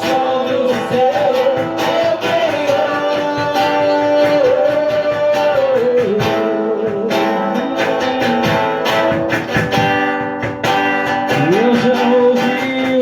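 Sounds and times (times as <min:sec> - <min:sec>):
strummed guitar chords: 0:00.0 - 0:13.0
worship band music: 0:00.0 - 0:13.0.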